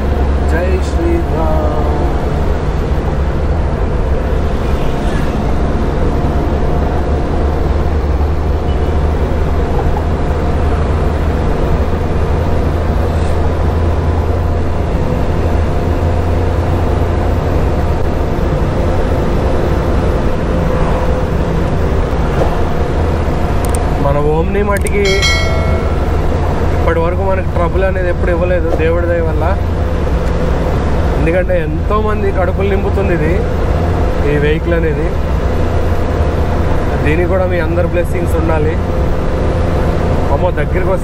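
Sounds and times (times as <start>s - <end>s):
road noise: 0.0s - 41.0s.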